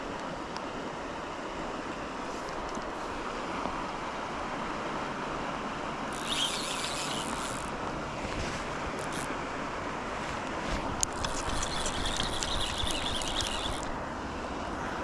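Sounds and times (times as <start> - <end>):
river water rushing: 0.1 - 15.0.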